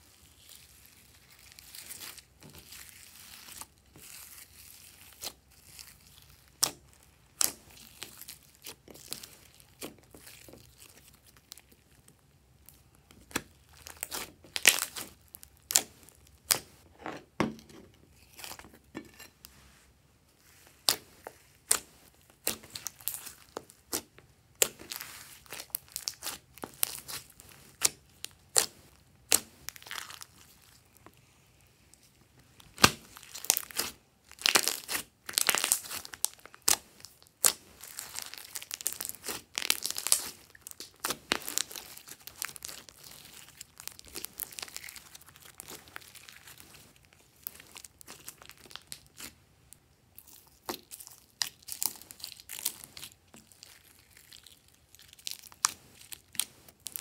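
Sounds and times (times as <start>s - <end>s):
slime crackling and popping: 0.3s - 16.7s, 20.8s - 30.8s, 32.6s - 49.4s, 50.1s - 57.0s.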